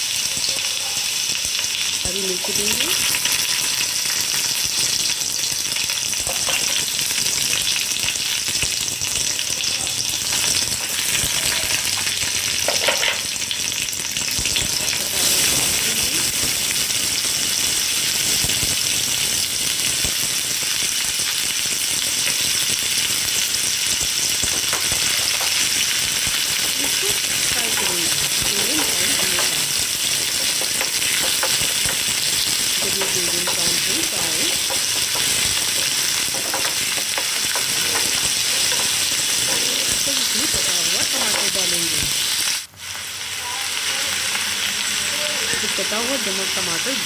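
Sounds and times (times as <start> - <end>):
spices sizzling in hot oil: 0.0 - 47.0.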